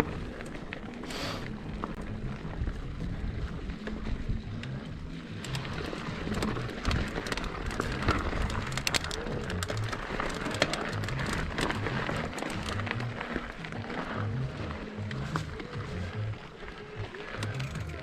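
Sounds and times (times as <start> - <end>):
mountain bike rattling over rocks: 0.0 - 18.0
music with blocky bass line: 0.0 - 18.0.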